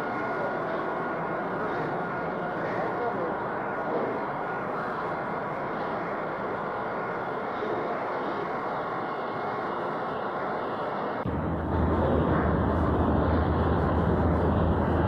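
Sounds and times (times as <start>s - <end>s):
machine-like drone: 0.0s - 15.0s.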